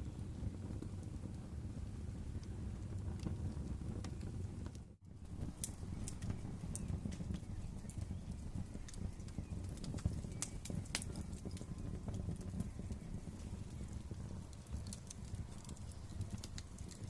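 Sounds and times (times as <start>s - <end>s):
fire pops and snaps: 0.0s - 17.0s
low rumble of flames: 0.0s - 17.0s.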